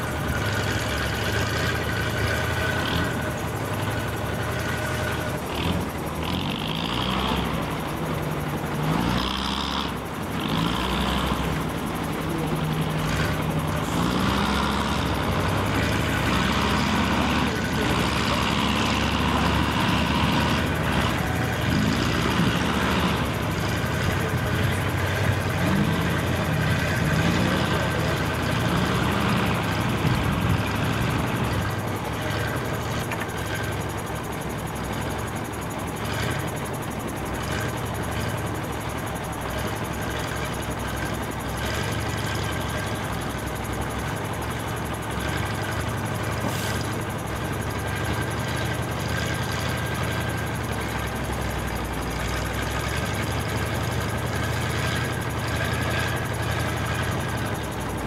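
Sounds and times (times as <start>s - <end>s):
truck engine revving under load: 0.0s - 58.0s.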